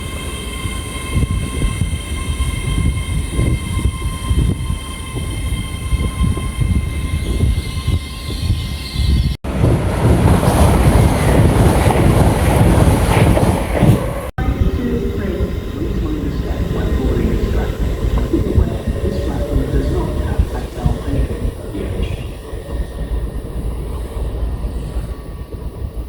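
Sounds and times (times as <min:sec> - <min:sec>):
train rushing past: 0:00.0 - 0:26.0.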